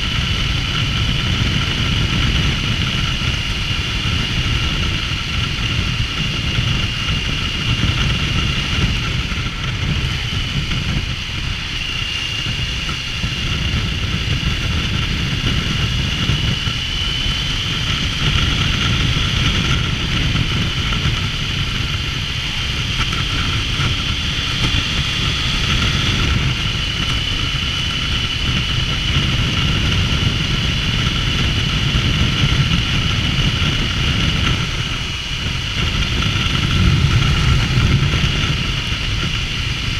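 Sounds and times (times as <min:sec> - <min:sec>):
heavy wind rush: 0:00.0 - 0:39.9
high whine: 0:00.0 - 0:39.9
motorcycle running: 0:00.0 - 0:39.9.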